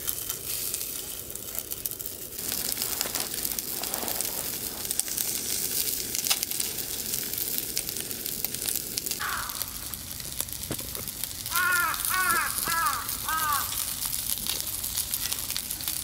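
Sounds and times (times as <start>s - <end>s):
dumplings sizzling in a pan: 0.0s - 16.0s.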